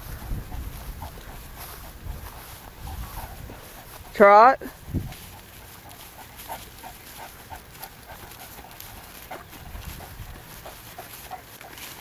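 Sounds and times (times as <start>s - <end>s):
footfalls trotting on grass: 0.0s - 12.0s.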